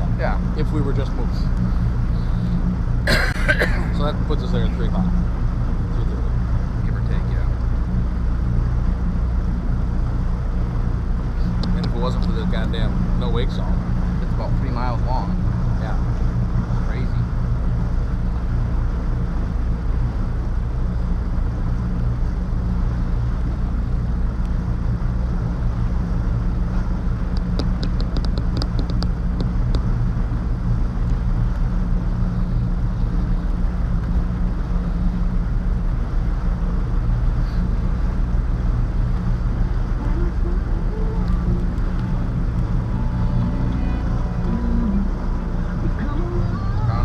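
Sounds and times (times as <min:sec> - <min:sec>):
motorboat engine humming: 0:00.0 - 0:47.0.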